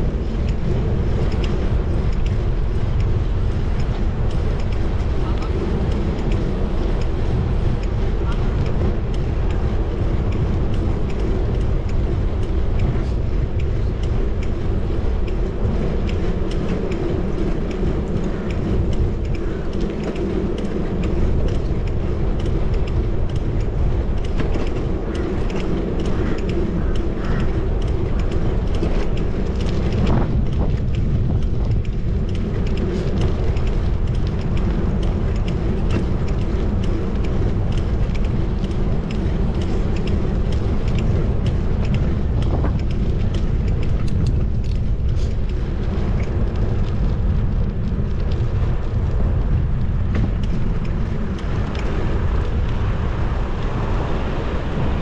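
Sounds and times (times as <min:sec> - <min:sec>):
city street traffic: 0:00.0 - 0:55.0
wind rumbling on microphone: 0:00.0 - 0:55.0.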